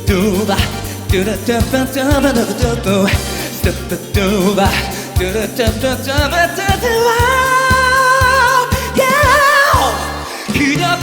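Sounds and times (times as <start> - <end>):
pop band playing: 0.0 - 11.0.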